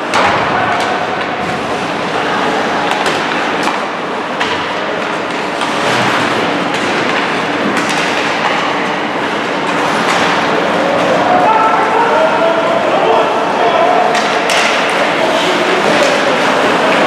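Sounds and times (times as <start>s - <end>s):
hockey sticks and puck clacking: 0.0s - 11.8s, 13.8s - 17.0s
low arena hum: 0.0s - 17.0s.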